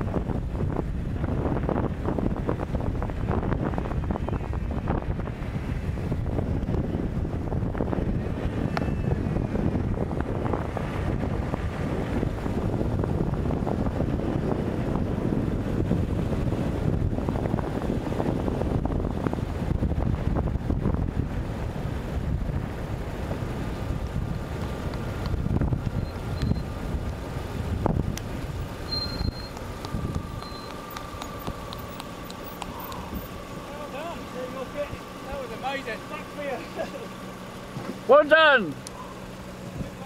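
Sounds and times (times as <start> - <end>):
wind buffeting microphone: 0.0 - 35.8
car road noise: 0.0 - 40.0.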